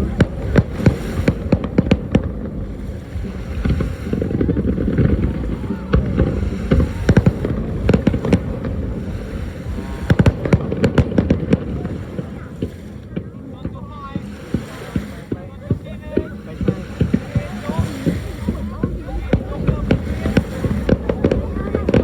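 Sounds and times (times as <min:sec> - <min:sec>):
fireworks bursting: 0:00.0 - 0:22.0
low rumble: 0:00.0 - 0:22.0.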